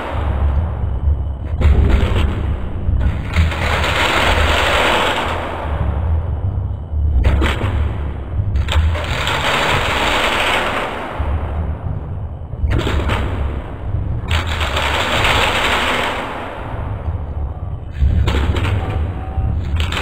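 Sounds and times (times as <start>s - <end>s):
dense rattling noise bursts: 0.0s - 20.0s
low droning rumble: 0.0s - 20.0s.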